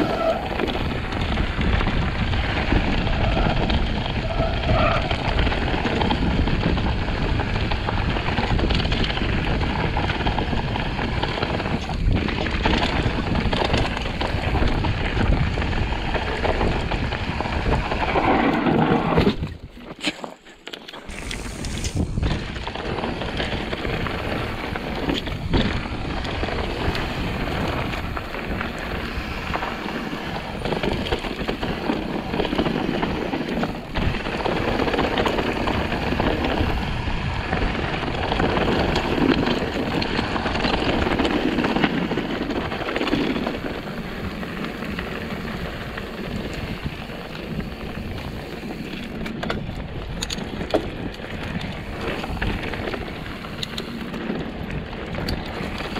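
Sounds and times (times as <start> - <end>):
bike rattling and knocking: 0.0 - 55.9
bike tyres on dirt and rock: 0.0 - 55.9.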